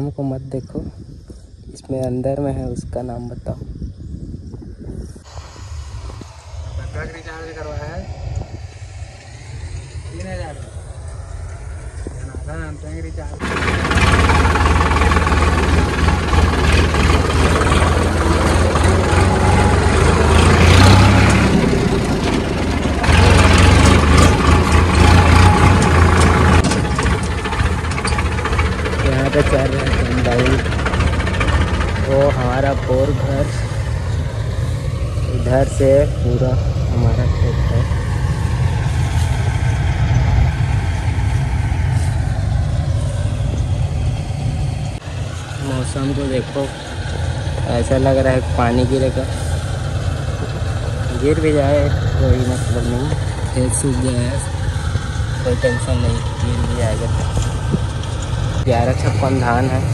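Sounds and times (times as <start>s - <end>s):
diesel tractor engine running: 5.2s - 59.9s.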